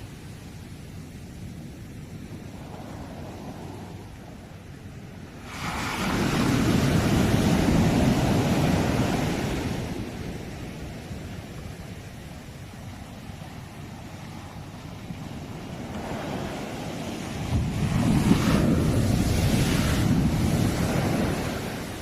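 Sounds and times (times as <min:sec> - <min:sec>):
wind buffeting microphone: 0:00.0 - 0:22.0
sea waves breaking: 0:02.0 - 0:22.0.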